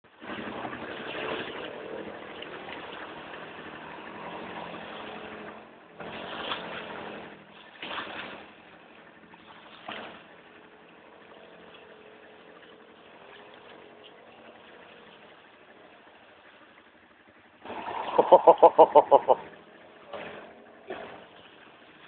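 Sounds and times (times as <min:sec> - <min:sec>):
faint engine hum: 0:00.0 - 0:22.0
rushing water: 0:00.1 - 0:22.0.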